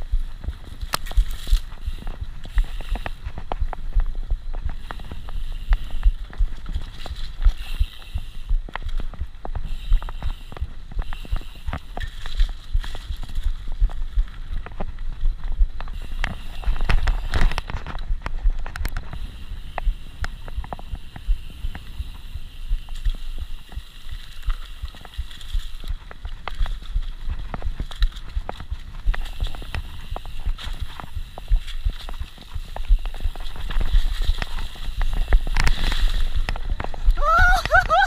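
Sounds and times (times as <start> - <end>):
bike clicks and knocks: 0.0 - 38.0
bike rumbling over dirt: 0.0 - 38.0.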